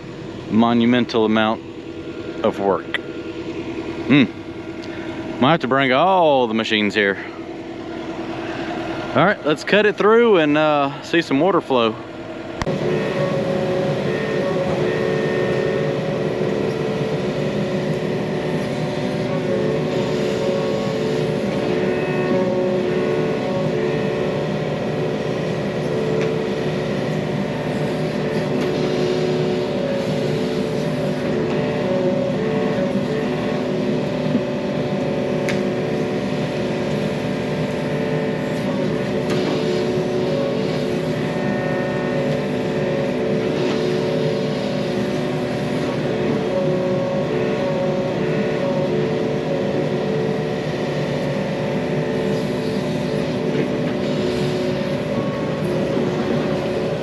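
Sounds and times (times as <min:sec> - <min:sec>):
excavator diesel engine running: 0:00.0 - 0:57.0
noisy mechanical background: 0:00.0 - 0:57.0.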